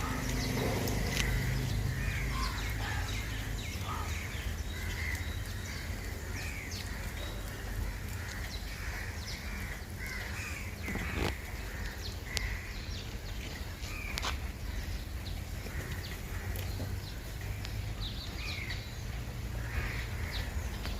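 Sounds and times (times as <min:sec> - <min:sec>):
birds calling: 0:00.0 - 0:20.9.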